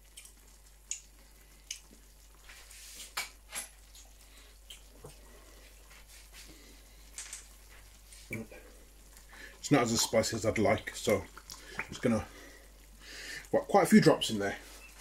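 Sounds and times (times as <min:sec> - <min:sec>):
sauce bubbling in saucepan: 0:00.0 - 0:15.0.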